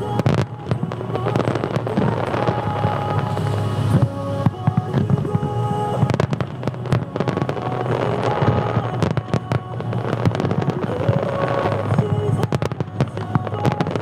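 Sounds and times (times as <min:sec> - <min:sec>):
fireworks bursting and crackling: 0:00.0 - 0:14.0
music with held notes: 0:00.0 - 0:14.0.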